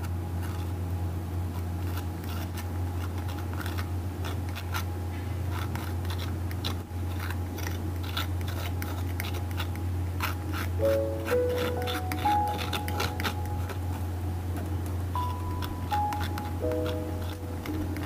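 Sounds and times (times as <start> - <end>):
palette knife scraping canvas: 0.0 - 14.1, 15.2 - 18.0
steady low hum: 0.0 - 18.0.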